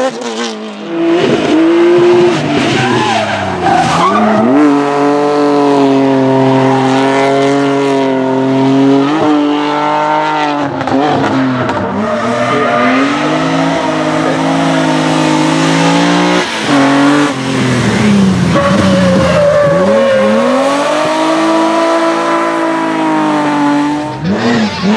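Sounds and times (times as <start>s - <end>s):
race car engine at full throttle: 0.0s - 24.9s.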